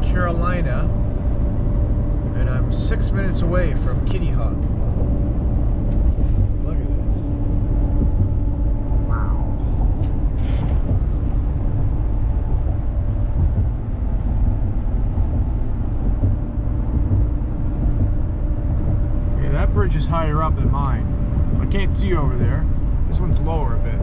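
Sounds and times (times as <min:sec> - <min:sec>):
engine and tyre rumble: 0:00.0 - 0:24.0
faint steady hum: 0:00.0 - 0:24.0.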